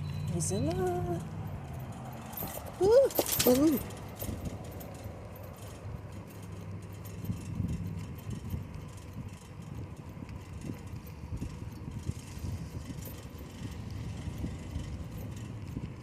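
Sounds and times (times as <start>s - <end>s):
bicycle tyre and road noise: 0.0s - 16.0s
wind buffeting microphone: 0.0s - 16.0s.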